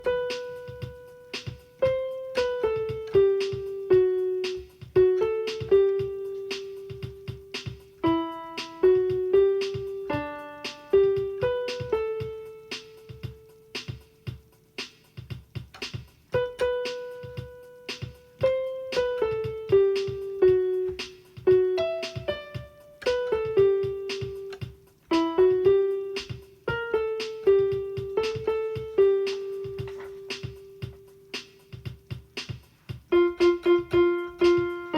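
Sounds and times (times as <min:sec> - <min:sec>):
piano melody: 0:00.0 - 0:34.9.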